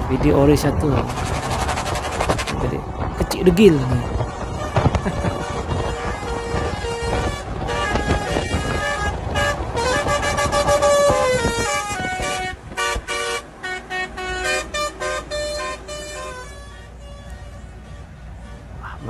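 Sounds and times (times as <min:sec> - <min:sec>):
engine and road noise: 0:00.0 - 0:19.0
tuned air horns playing a tune: 0:01.0 - 0:03.0, 0:03.8 - 0:19.0.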